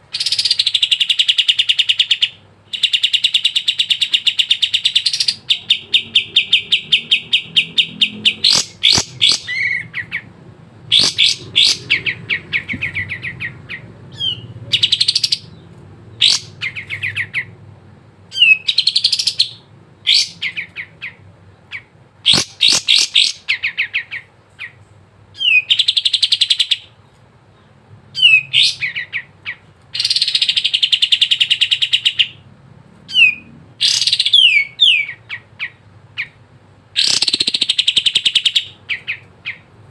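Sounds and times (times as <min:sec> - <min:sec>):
songbird trilling and chirping: 0:00.1 - 0:10.3, 0:10.9 - 0:17.6, 0:18.3 - 0:24.8, 0:25.4 - 0:32.4, 0:33.1 - 0:36.4, 0:37.0 - 0:39.7.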